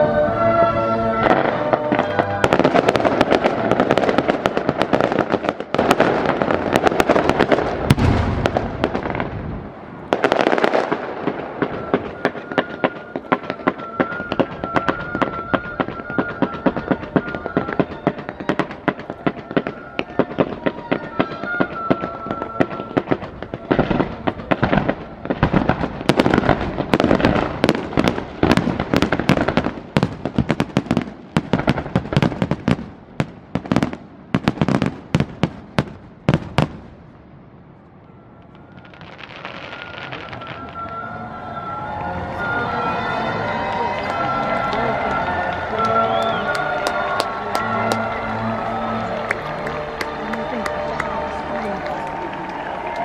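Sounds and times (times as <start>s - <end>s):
fireworks bangs and crackling: 0.0s - 53.0s.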